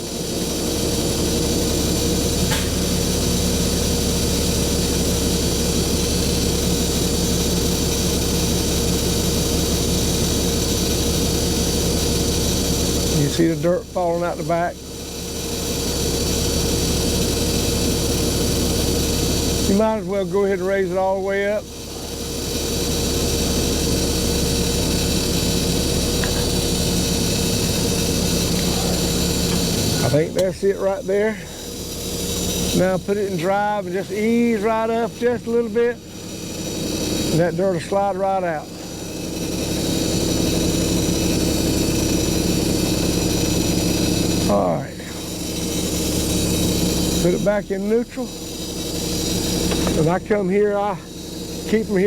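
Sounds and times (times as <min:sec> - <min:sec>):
hydraulic pump whine: 0:00.0 - 0:52.0
truck engine running under load: 0:00.0 - 0:52.0.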